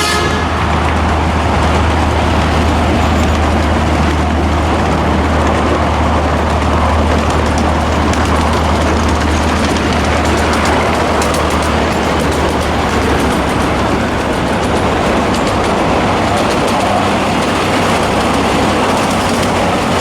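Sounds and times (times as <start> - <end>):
train engine rumble: 0.0 - 20.0
wheels rushing on rails: 0.0 - 20.0.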